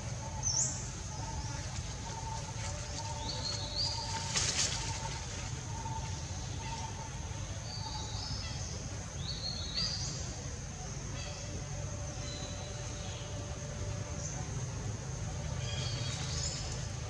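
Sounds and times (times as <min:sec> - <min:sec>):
low background rumble: 0:00.0 - 0:17.0
steady high hum: 0:00.0 - 0:17.0.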